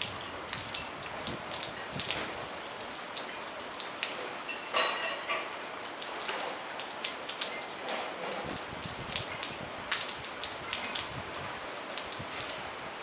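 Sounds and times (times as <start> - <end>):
drips splashing on hard surfaces: 0.0 - 13.0
steady rain falling: 0.0 - 13.0.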